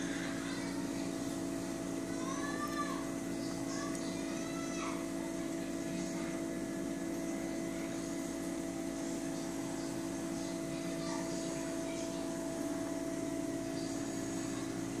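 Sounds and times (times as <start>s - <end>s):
aquarium water pumps humming: 0.0s - 15.0s
constant electronic tones: 0.0s - 15.0s.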